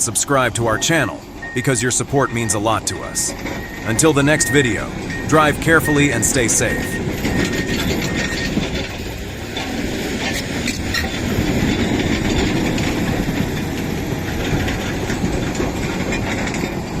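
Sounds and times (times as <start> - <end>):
heavy vehicle rumbling: 0.0 - 17.0
rattling: 0.6 - 17.0.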